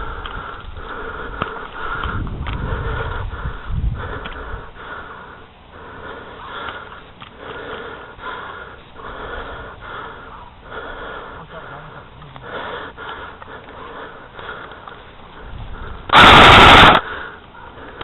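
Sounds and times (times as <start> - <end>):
person breathing hard: 0.0 - 18.0.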